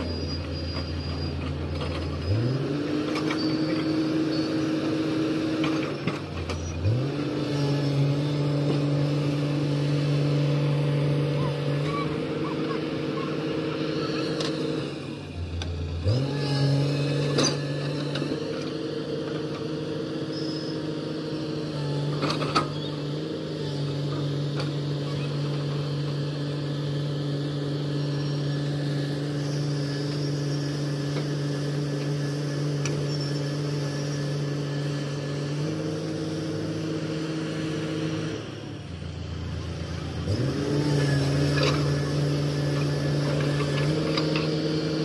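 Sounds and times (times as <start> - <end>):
excavator diesel engine: 0.0 - 45.0.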